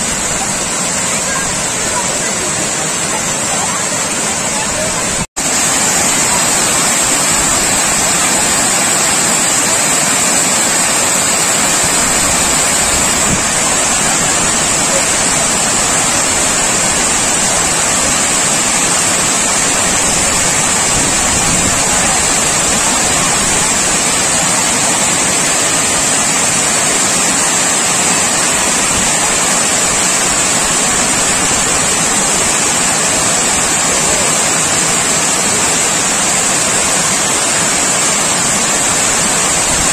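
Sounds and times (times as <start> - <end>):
water rushing over dam: 0.0 - 39.9.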